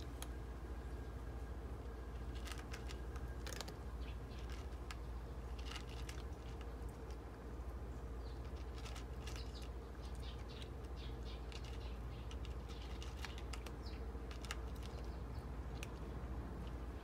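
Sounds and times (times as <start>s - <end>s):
cat crunching dry kibble: 0.0s - 0.5s, 1.6s - 17.0s.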